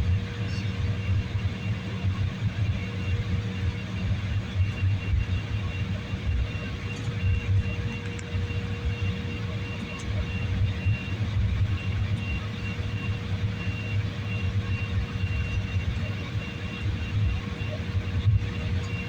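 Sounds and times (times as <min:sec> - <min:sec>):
aircraft cabin rumble: 0:00.0 - 0:19.0.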